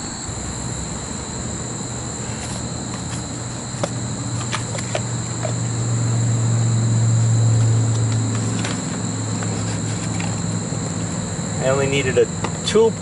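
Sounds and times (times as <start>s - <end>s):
condensing unit electrical hum: 0.0s - 13.0s
high insect trill: 0.0s - 13.0s.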